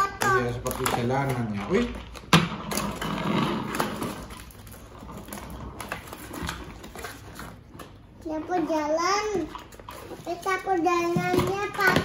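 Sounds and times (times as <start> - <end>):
packaging rustling and scraping: 0.4 - 12.0.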